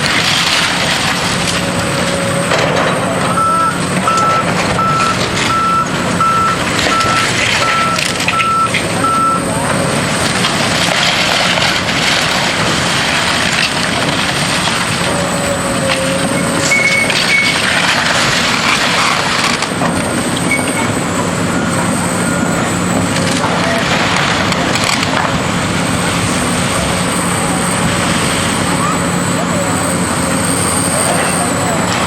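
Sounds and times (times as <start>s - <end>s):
demolition machinery running: 0.0s - 32.0s.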